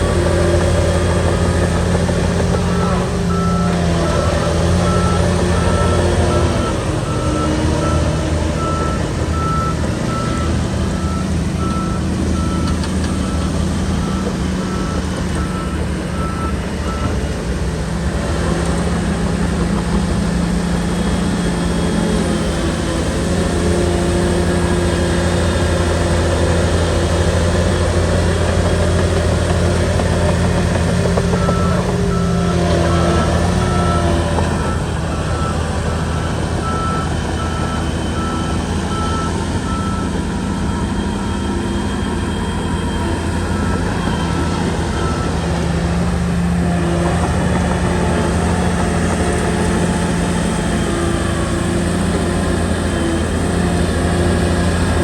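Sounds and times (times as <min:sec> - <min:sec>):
bulldozer diesel engine running: 0:00.0 - 0:55.0
reversing alarm beeping: 0:00.3 - 0:17.4, 0:18.5 - 0:55.0.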